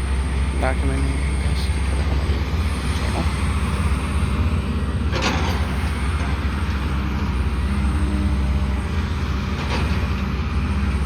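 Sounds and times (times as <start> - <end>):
construction machinery engine drone: 0.0 - 11.0.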